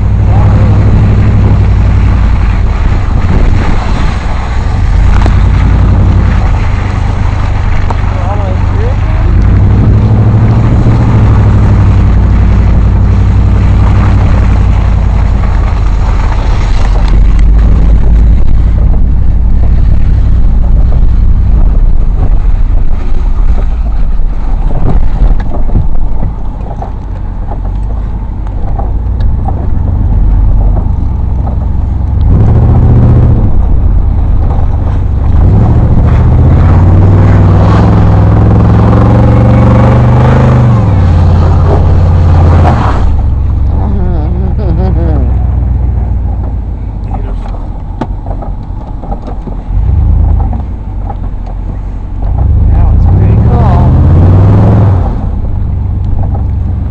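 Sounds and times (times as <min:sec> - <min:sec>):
off-road vehicle engine revving: 0:00.0 - 0:56.9
vehicle driving through mud and water: 0:00.0 - 0:56.9.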